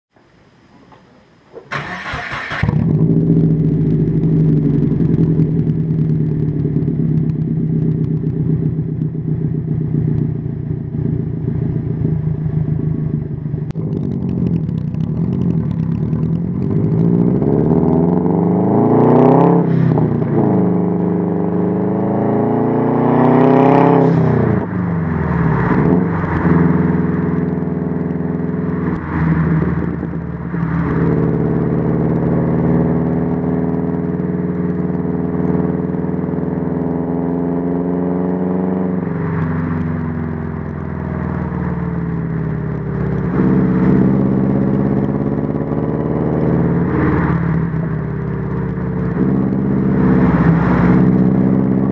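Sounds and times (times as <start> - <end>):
car engine idling and revving: 0.9 - 51.9.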